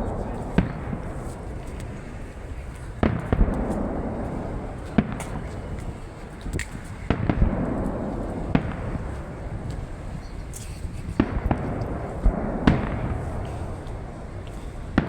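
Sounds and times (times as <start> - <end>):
continuous low rumble: 0.0 - 15.0.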